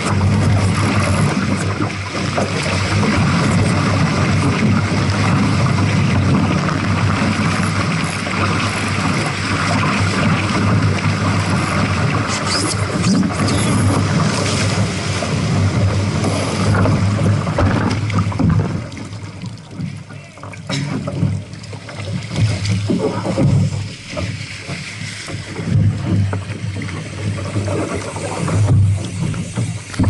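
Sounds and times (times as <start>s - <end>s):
water rushing along a hull: 0.0s - 30.0s
water splashing over a boat: 0.0s - 30.0s.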